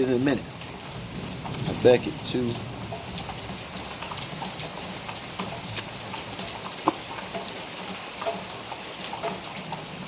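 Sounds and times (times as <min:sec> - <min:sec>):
rain pattering: 0:00.0 - 0:10.0
drops ticking: 0:01.4 - 0:09.8.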